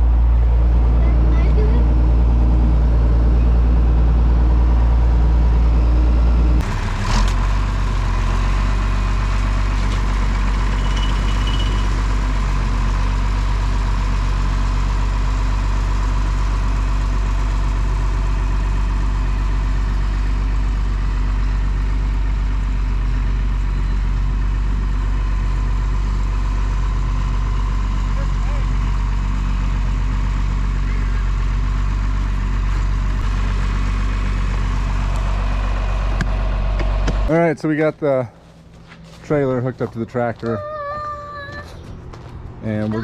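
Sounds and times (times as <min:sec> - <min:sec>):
tractor engine running: 0:00.0 - 0:40.8.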